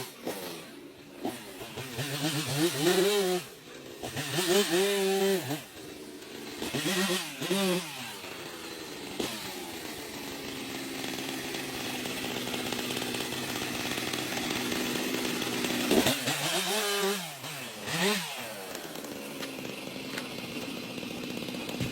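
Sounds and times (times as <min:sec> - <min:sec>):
chainsaw running: 0:00.0 - 0:21.9.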